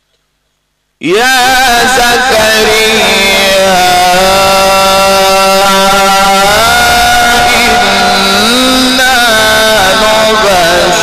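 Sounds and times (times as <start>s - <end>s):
man reciting a long melodic note: 1.0s - 11.0s.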